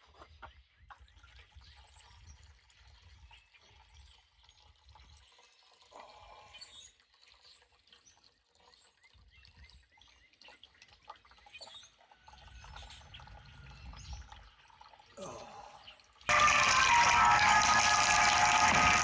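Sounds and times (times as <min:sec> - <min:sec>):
fuel trickling into pan: 0:01.6 - 0:19.0.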